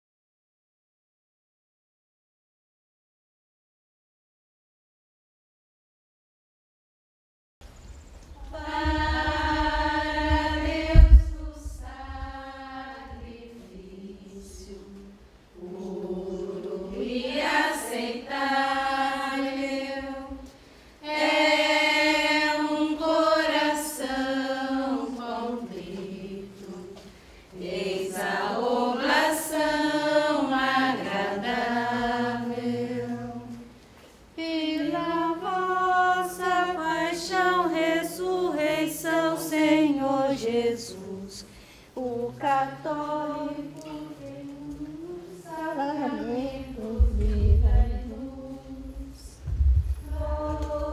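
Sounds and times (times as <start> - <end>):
women singing a hymn unaccompanied: 8.4 - 50.9.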